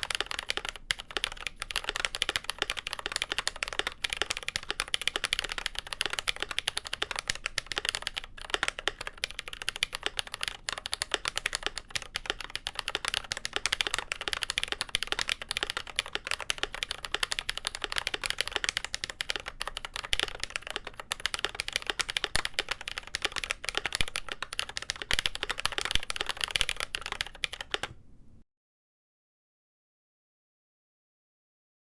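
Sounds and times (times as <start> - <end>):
fast typing on mechanical keyboard: 0.0 - 28.0.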